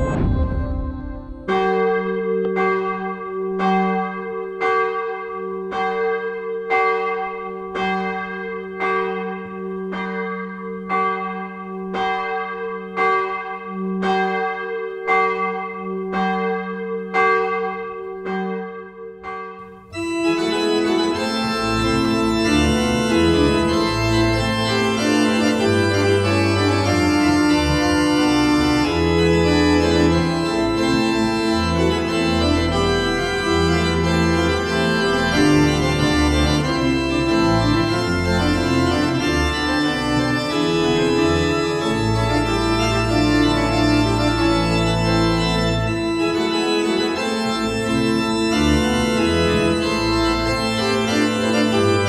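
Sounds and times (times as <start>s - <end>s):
pipe organ chords: 0.0s - 12.2s, 19.8s - 52.0s
church bell tolling: 0.0s - 52.0s.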